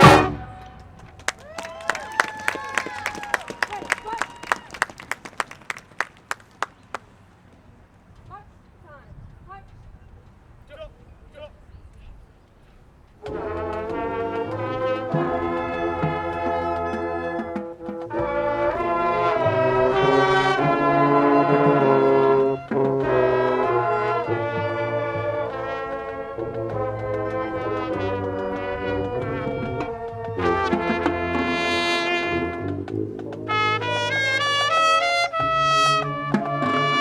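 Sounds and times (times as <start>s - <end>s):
marching band brass playing chords: 0.0s - 7.4s, 13.1s - 37.0s.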